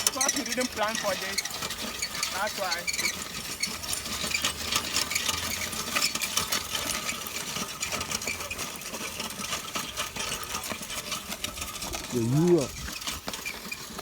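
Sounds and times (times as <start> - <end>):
plough rattling through soil: 0.0 - 14.0.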